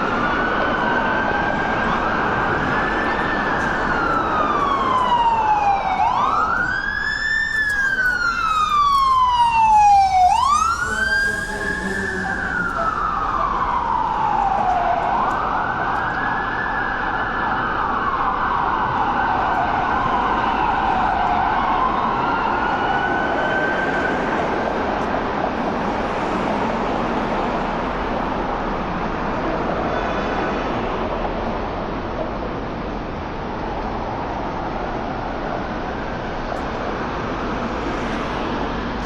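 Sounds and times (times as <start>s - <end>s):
emergency vehicle siren wailing: 0.0s - 39.0s
street traffic hum: 0.0s - 39.0s.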